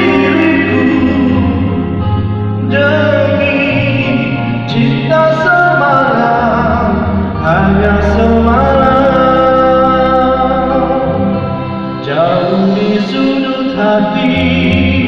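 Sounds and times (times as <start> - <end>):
man singing through a pa: 0.0 - 1.9, 2.6 - 11.3, 12.0 - 15.0
backing music: 0.0 - 15.0.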